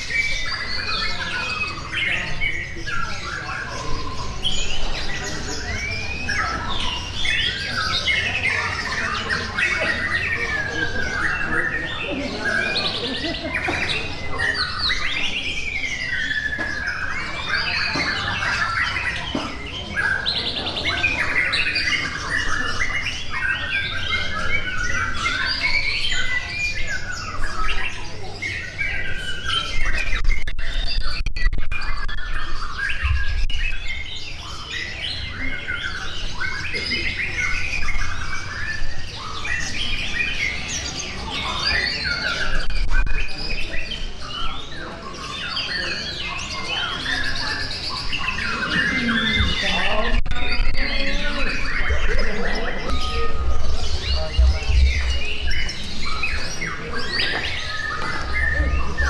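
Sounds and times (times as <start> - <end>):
songbirds singing and calling: 0.0 - 59.0.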